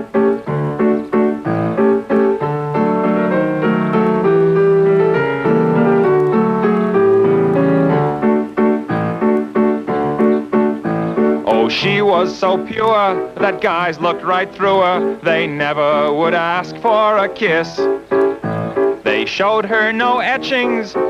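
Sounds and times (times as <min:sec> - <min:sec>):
piano playing chords: 0:00.0 - 0:21.0.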